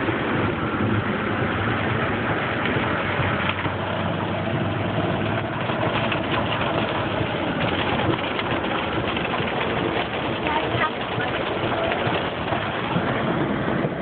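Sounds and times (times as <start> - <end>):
car engine: 0.0 - 14.0
tyres on wet pavement: 0.0 - 14.0.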